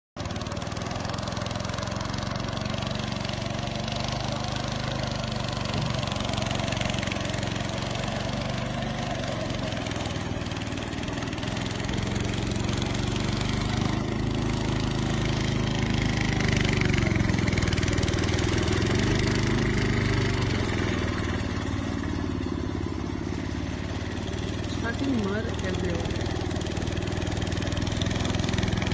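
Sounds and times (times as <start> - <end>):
riding lawnmower engine running: 0.2 - 28.9.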